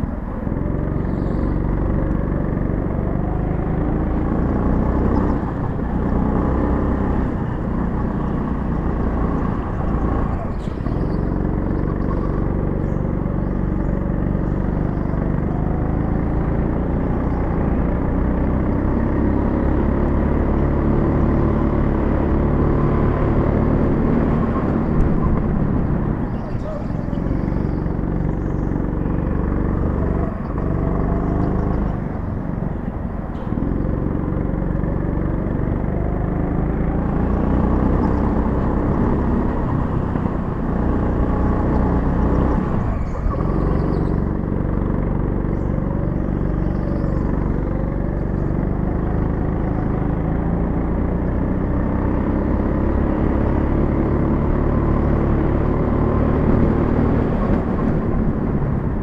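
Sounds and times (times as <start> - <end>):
go-kart motor running: 0.0 - 59.0.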